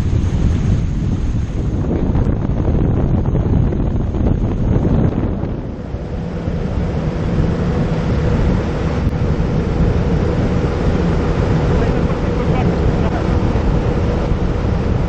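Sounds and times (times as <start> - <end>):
outboard motor droning: 0.0 - 15.0
rushing water: 0.0 - 15.0
wind buffeting microphone: 0.0 - 15.0.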